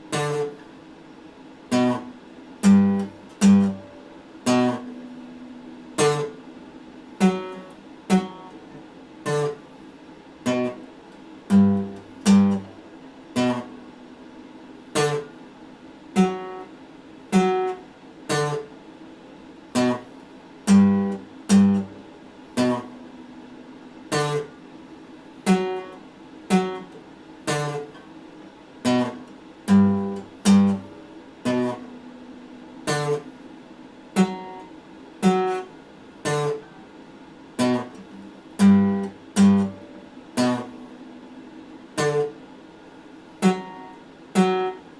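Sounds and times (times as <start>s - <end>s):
acoustic guitar chords: 0.0s - 44.9s.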